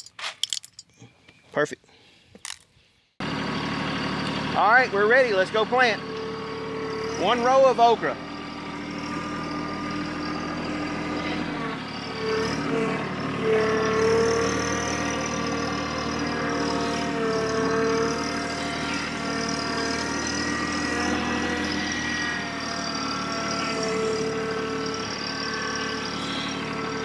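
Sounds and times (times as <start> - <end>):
diesel tractor engine running: 3.2 - 27.0.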